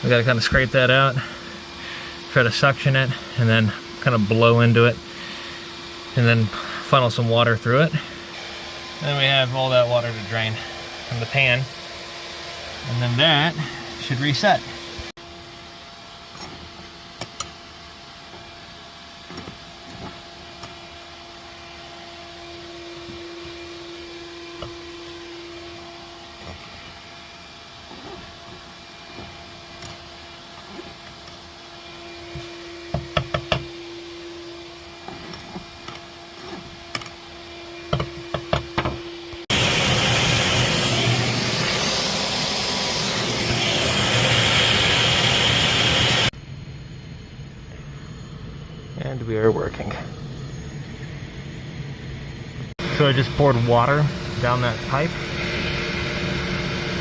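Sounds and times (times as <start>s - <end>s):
fan motor rushing air: 0.0s - 57.0s
mechanical hum: 0.0s - 57.0s.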